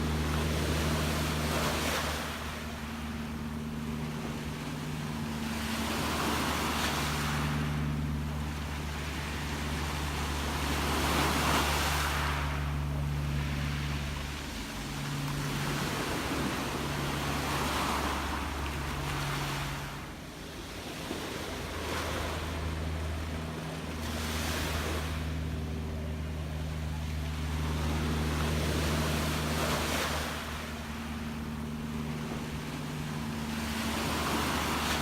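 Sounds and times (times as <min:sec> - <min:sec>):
sea waves washing: 0:00.0 - 0:35.0
steady low hum: 0:00.0 - 0:35.0.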